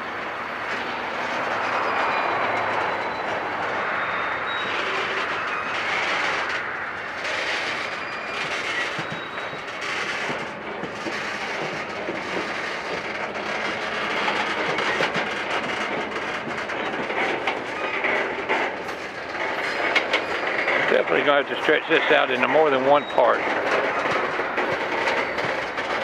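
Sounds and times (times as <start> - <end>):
train wheels rumbling on rail: 0.0 - 26.0
wheels clicking over rail joints: 0.0 - 26.0.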